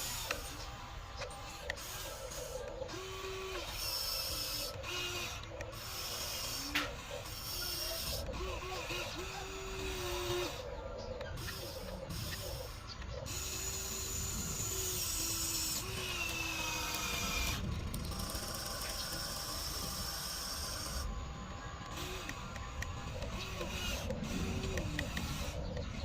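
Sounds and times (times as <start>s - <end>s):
electric motors whirring: 0.0s - 26.0s
thin whines shifting in pitch: 0.0s - 26.0s.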